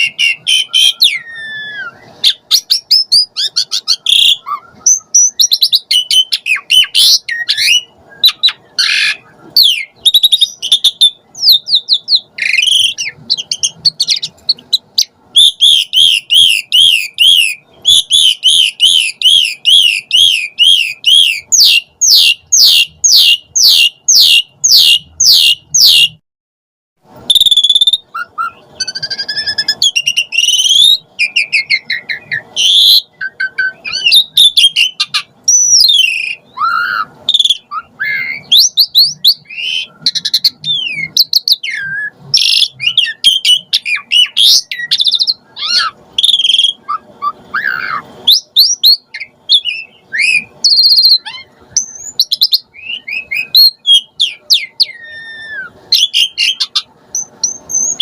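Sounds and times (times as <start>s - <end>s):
starling singing: 0.0s - 26.2s, 27.3s - 58.0s.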